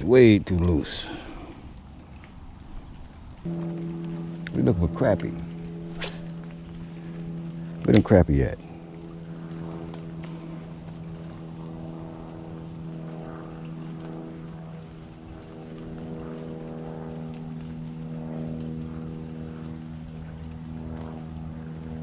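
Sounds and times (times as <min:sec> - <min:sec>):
propeller airplane droning: 0:00.0 - 0:22.0.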